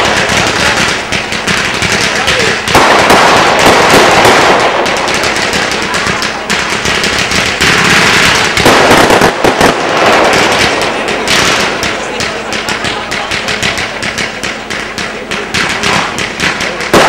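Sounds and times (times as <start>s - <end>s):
fireworks hissing and crackling: 0.0s - 17.0s.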